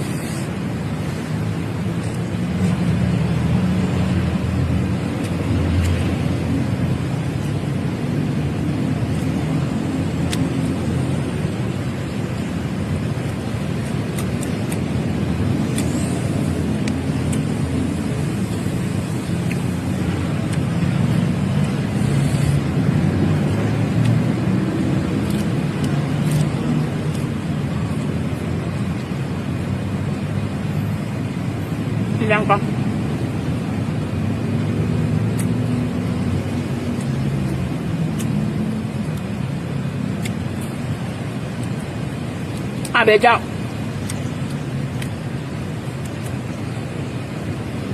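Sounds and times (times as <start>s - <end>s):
road traffic noise: 0.0s - 47.9s
vehicle engine rumbling: 0.0s - 47.9s.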